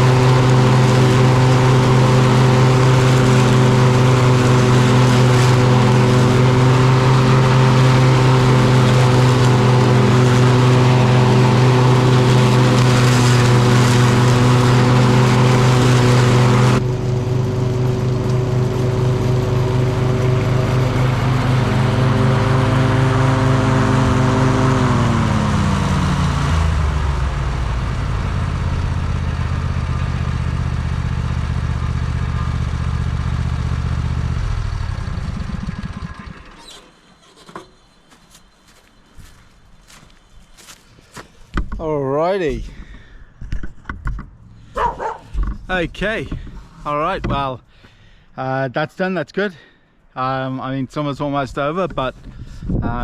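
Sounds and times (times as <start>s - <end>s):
riding lawn mower engine: 0.0s - 48.0s.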